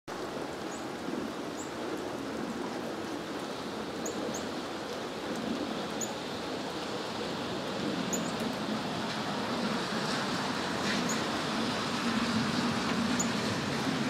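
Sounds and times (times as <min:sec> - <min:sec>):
steady rain falling: 0:00.1 - 0:14.0.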